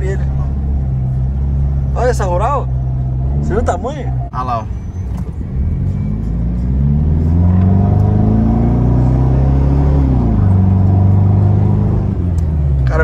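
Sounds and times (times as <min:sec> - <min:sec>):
diesel engine accelerating: 0:00.0 - 0:13.0.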